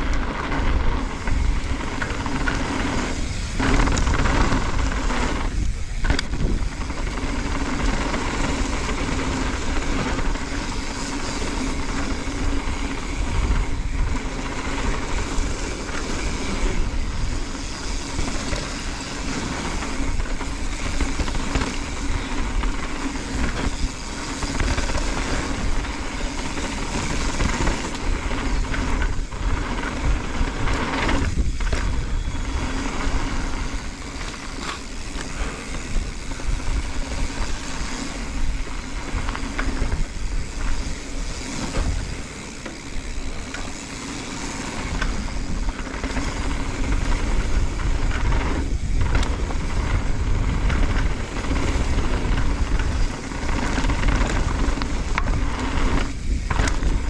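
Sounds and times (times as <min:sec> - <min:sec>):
bike tyres rolling over gravel: 0:00.0 - 0:57.0
wind rushing over microphone: 0:00.0 - 0:57.0.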